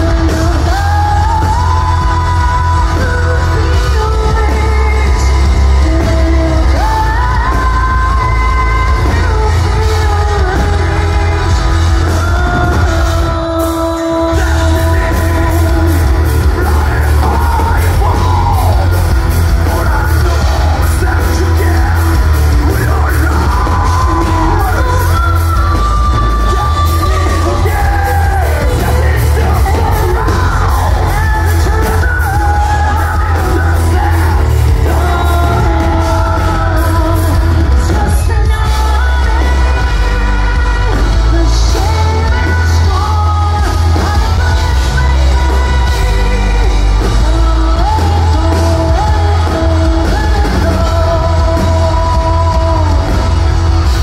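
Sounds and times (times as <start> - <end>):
live metal band playing: 0.0 - 54.0
sung and shouted vocals: 0.0 - 54.0.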